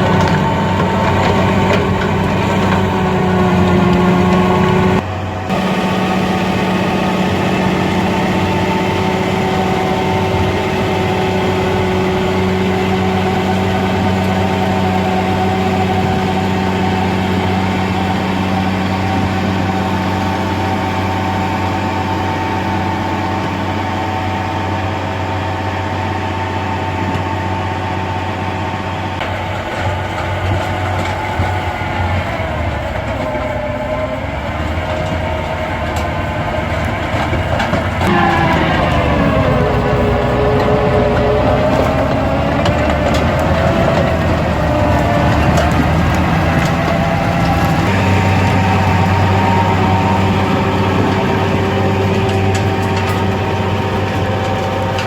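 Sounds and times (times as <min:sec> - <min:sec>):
rotavator machine whine: 0:00.0 - 0:55.0
tractor engine running: 0:00.0 - 0:55.0.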